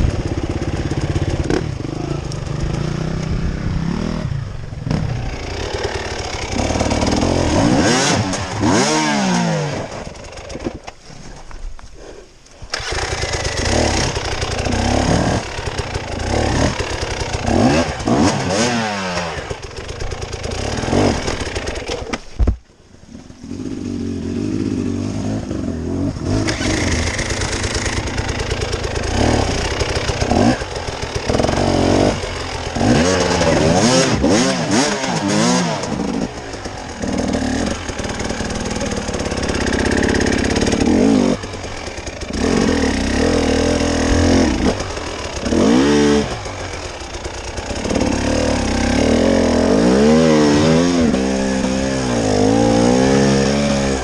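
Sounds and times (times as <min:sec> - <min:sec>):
off-road vehicle engine revving: 0:00.0 - 0:10.5, 0:12.7 - 0:21.8, 0:23.5 - 0:54.0.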